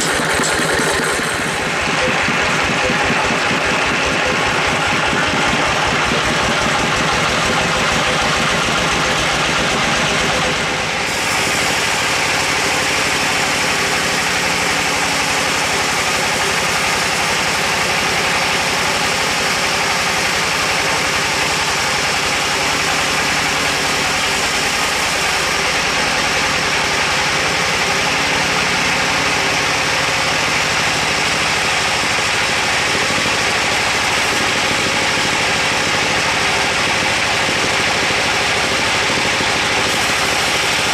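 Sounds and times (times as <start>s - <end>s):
band saw cutting log: 0.0s - 7.9s, 10.9s - 27.6s, 31.9s - 40.9s.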